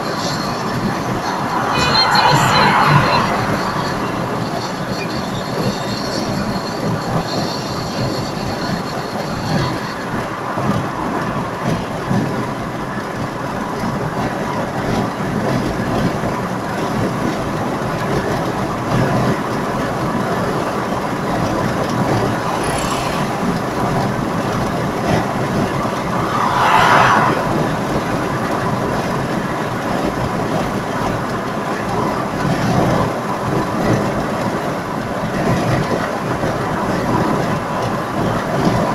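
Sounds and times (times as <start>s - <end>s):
car engine drone: 0.0s - 38.9s
road and tyre noise: 0.0s - 38.9s.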